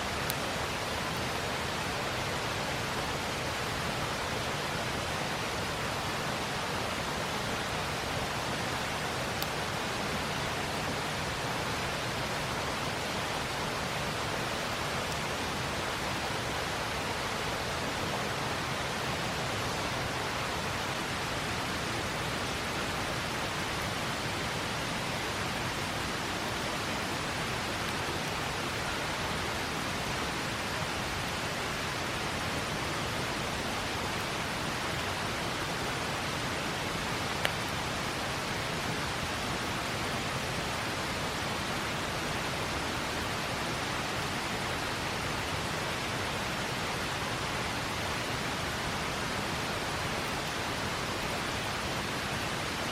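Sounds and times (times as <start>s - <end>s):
river rushing: 0.0s - 52.9s.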